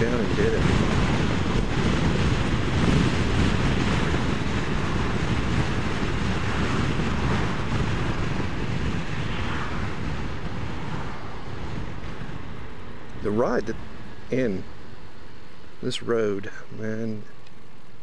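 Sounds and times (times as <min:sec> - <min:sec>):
wind buffeting microphone: 0:00.0 - 0:17.4
road noise: 0:00.0 - 0:18.0.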